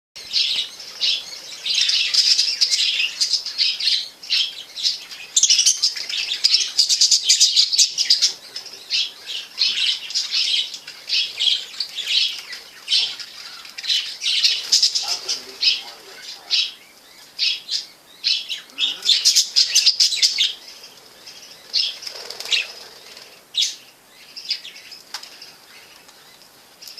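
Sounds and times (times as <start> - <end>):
budgerigars chattering: 0.2 - 26.9.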